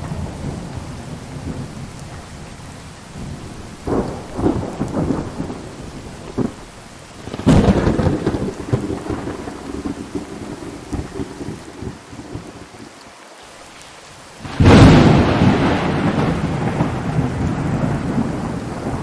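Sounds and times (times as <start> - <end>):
loud thunderclap: 0.0 - 12.0, 14.4 - 19.0
thunder rumbling: 0.0 - 12.9, 14.4 - 19.0
heavy rain pouring: 0.0 - 19.0.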